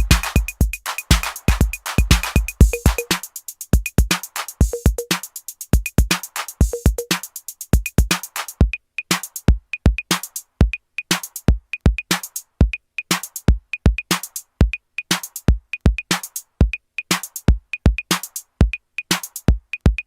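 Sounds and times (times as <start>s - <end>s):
electronic drum-machine beat: 0.0s - 20.0s.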